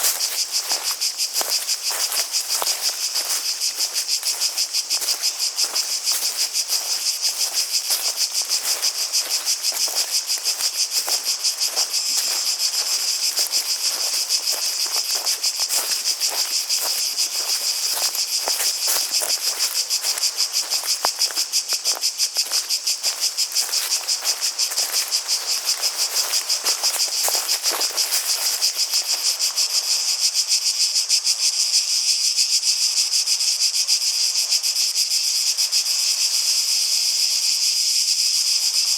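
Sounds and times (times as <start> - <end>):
cicadas buzzing in chorus: 0.0 - 38.9.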